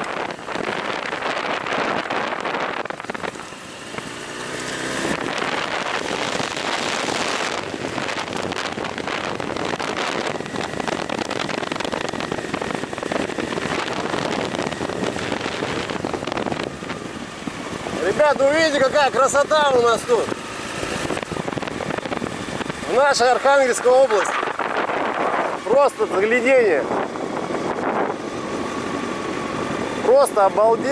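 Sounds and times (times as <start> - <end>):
wind noise on microphone: 0.0 - 30.2
motorcycle engine running: 0.0 - 30.9.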